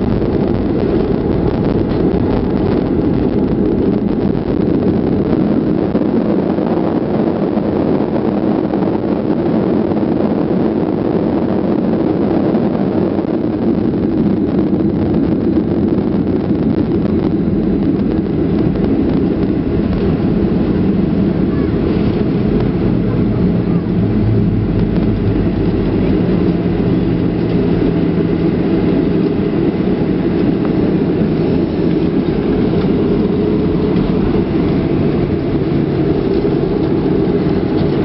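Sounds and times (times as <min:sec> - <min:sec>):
airliner cabin engine noise: 0:00.0 - 0:38.0.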